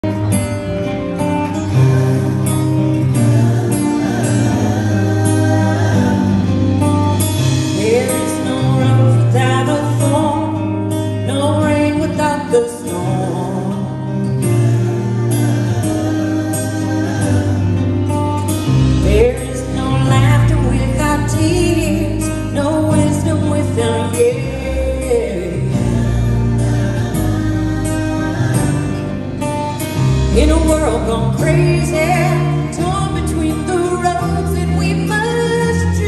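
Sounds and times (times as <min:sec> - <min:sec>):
guitar: 0:00.0 - 0:36.0
live pop-rock band: 0:00.0 - 0:36.0.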